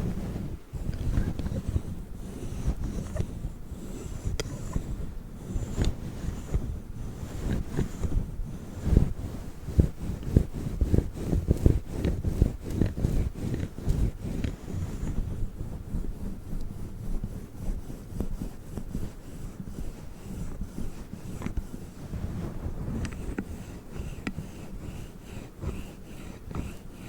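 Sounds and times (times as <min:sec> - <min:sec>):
rubbing on microphone cover: 0:00.0 - 0:27.0.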